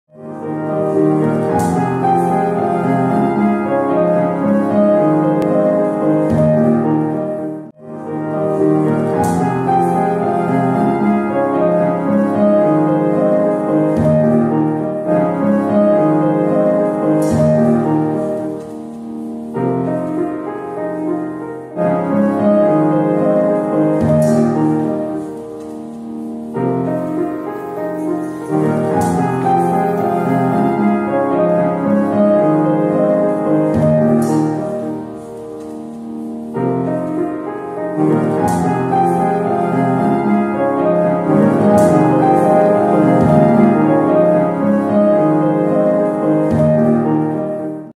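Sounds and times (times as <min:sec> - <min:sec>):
piano music: 0:00.1 - 0:47.9.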